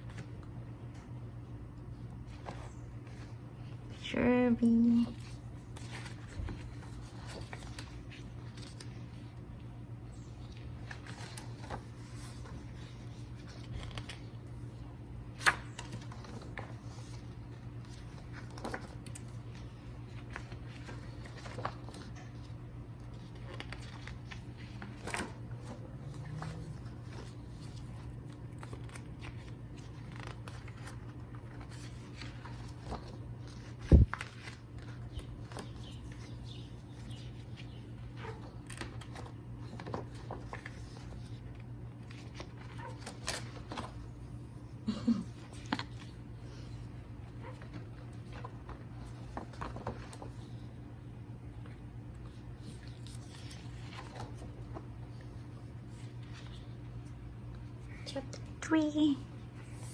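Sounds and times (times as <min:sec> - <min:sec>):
steady low hum: 0:00.0 - 0:59.9
paper rustling and clicks: 0:05.1 - 0:09.4, 0:10.3 - 0:44.4, 0:45.3 - 0:50.8, 0:51.6 - 0:58.4.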